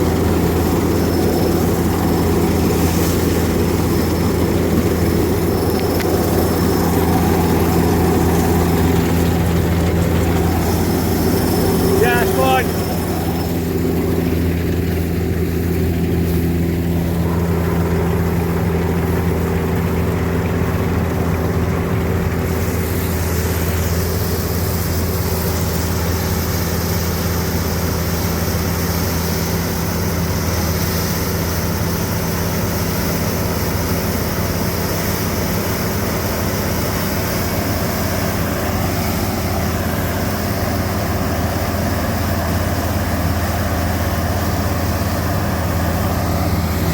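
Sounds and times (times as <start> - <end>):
combine harvester engine droning: 0.0 - 46.9.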